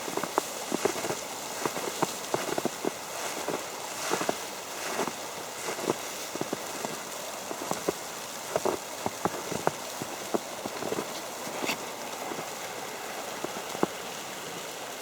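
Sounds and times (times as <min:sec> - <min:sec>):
snow tapping on umbrella: 0:00.0 - 0:14.1
steady hiss: 0:00.0 - 0:15.0.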